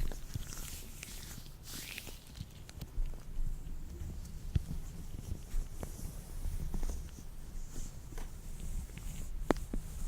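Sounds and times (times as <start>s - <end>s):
latex gloves rubbing: 0.0s - 2.7s, 4.2s - 10.0s.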